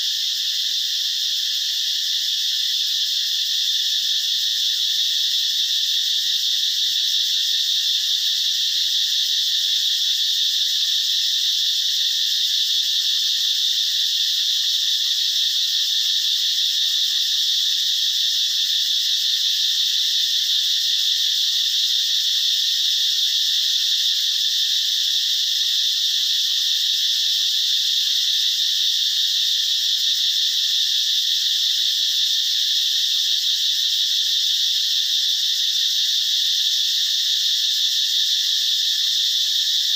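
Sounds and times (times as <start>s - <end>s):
insects or frogs calling: 0.0s - 39.9s.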